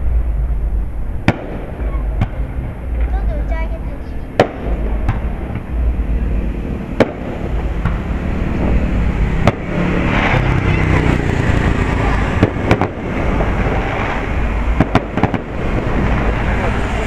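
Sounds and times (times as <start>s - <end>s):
fireworks bursting with sharp bangs: 0.0s - 17.0s
steady low rumble: 0.0s - 17.0s.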